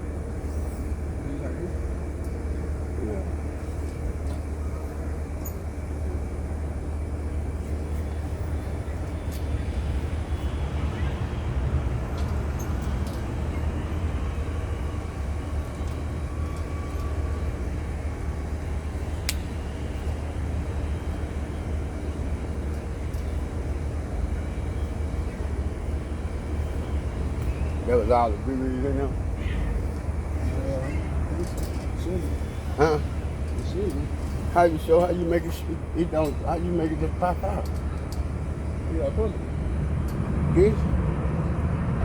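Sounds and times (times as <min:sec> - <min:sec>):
low outdoor rumble: 0:00.0 - 0:42.0.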